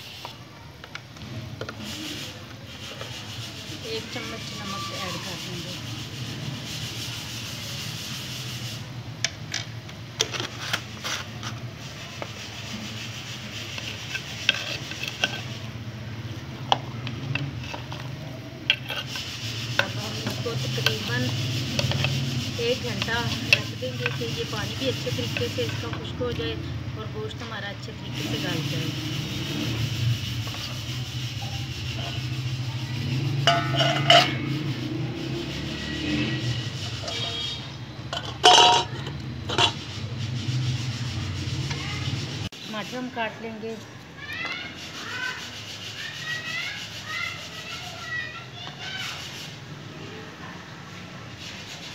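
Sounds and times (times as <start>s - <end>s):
metal ladle scraping clay pot: 0.0s - 49.7s.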